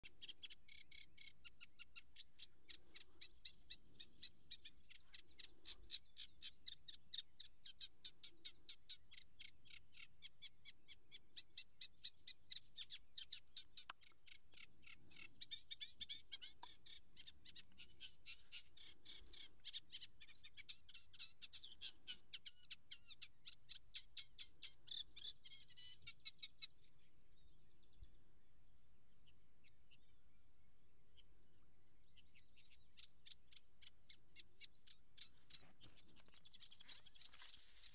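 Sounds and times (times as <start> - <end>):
small bird chirping: 0.0 - 37.9.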